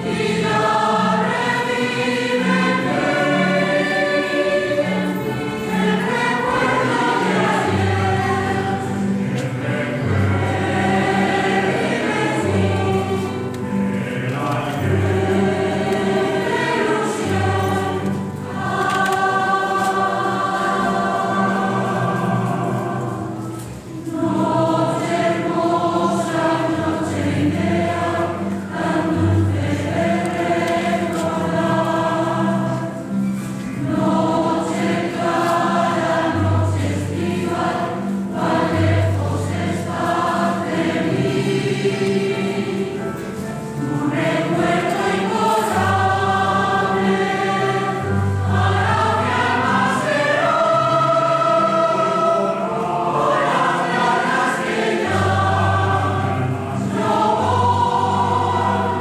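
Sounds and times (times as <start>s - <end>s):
mixed choir singing in harmony: 0.0s - 59.0s.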